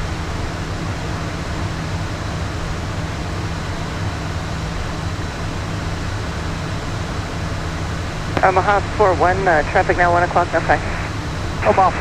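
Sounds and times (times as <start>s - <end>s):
airflow rushing in cockpit: 0.0s - 12.0s
jet engine noise: 0.0s - 12.0s
low steady drone: 0.0s - 12.0s.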